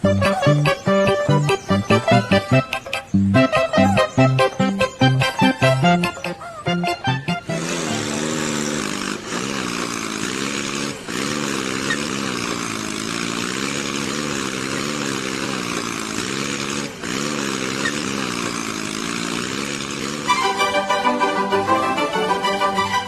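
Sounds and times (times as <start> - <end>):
small electric motor whining: 0.0 - 23.0.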